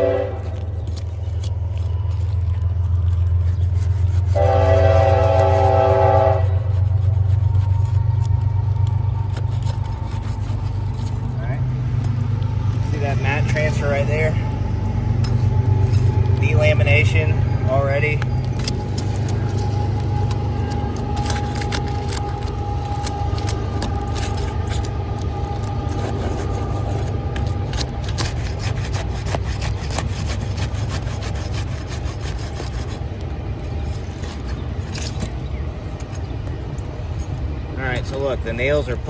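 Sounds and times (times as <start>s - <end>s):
roof shingles being scraped: 0.0s - 14.6s, 15.2s - 37.2s
steady low rumble: 0.0s - 39.0s.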